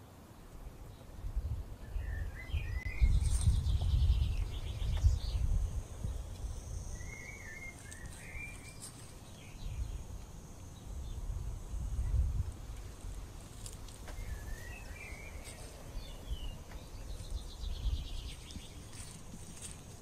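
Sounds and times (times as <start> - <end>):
wind rumble on microphone: 0.6 - 20.0
small birds warbling: 0.9 - 11.3, 12.1 - 20.0
high insect buzz: 3.0 - 20.0.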